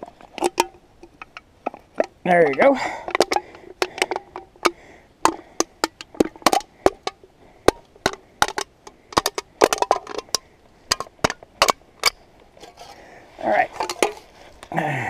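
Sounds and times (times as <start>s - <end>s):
thin metal crinkling: 0.0s - 14.7s.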